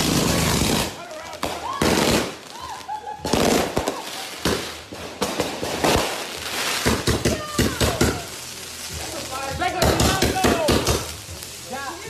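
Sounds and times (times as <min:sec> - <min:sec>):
rockets launching: 0:00.0 - 0:11.8
fireworks bangs and crackles: 0:00.0 - 0:12.0.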